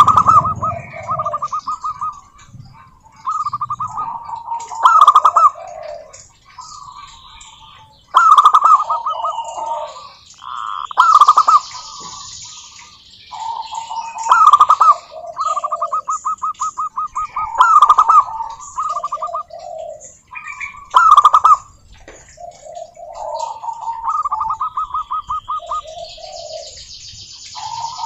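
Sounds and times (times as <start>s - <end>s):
doves cooing: 0.0s - 28.0s
faint high chirping: 0.0s - 28.0s.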